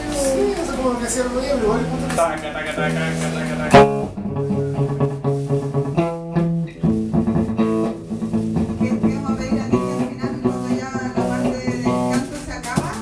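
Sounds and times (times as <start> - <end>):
electric guitar: 0.0 - 13.0
bass guitar: 1.4 - 13.0.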